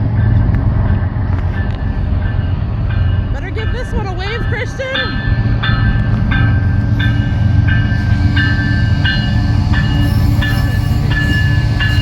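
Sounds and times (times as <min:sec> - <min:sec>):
diesel locomotives rumbling: 0:00.0 - 0:12.0
locomotive bell ringing: 0:00.0 - 0:12.0.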